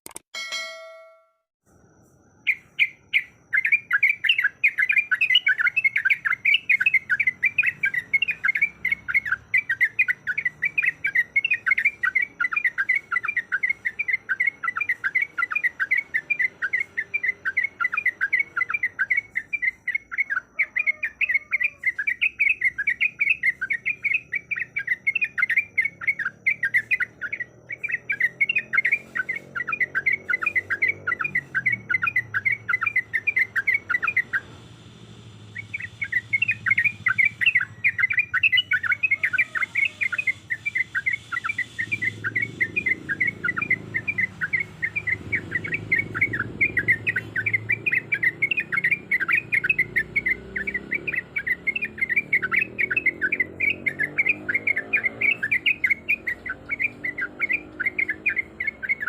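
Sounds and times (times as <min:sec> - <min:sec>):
bird singing fast chattering song: 0:02.2 - 0:59.0.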